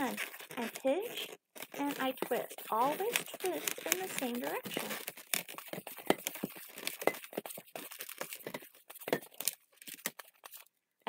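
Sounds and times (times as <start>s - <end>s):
balloon squeaking and rubbing: 0.0s - 10.7s.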